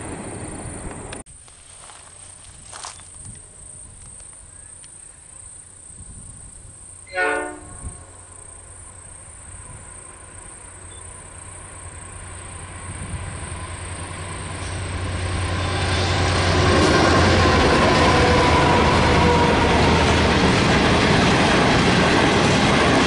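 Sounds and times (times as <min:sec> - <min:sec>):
diesel locomotive engine rumble: 0:00.0 - 0:05.4, 0:06.0 - 0:23.0.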